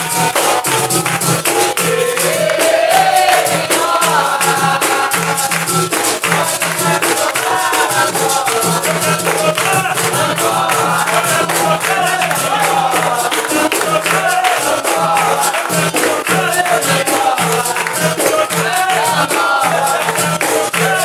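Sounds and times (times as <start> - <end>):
berimbau rhythmic pulse: 0.0 - 21.0
call and response singing: 0.0 - 21.0
handclaps: 0.0 - 21.0
pandeiro: 0.0 - 21.0.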